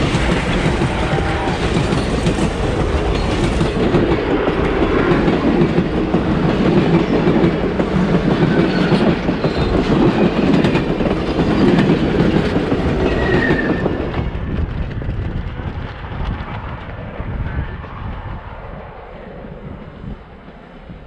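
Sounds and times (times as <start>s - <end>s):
train wheels clattering on rails: 0.0s - 17.3s.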